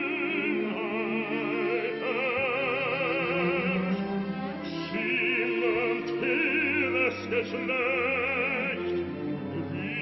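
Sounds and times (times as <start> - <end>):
opera orchestra: 0.0 - 10.0.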